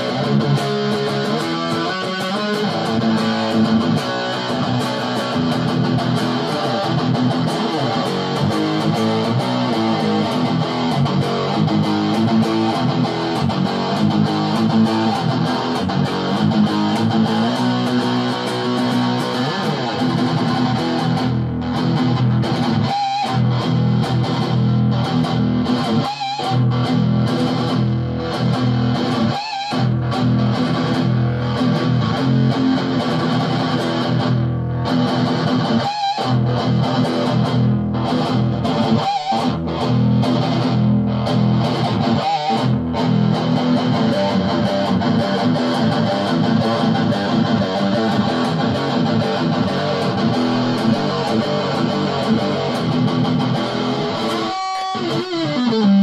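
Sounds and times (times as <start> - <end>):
distorted electric guitar riffs: 0.0 - 56.0.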